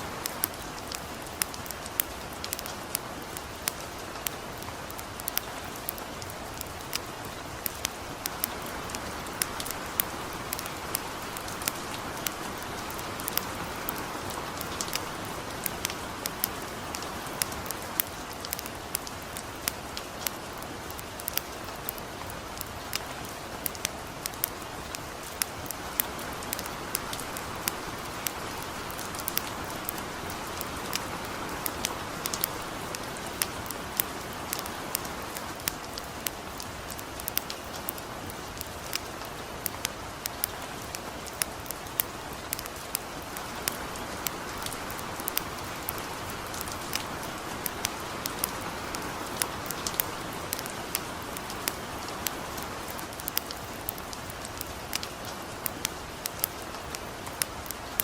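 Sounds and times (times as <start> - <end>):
campfire crackling and popping: 0.0 - 58.0
gentle rain hissing: 0.0 - 58.0.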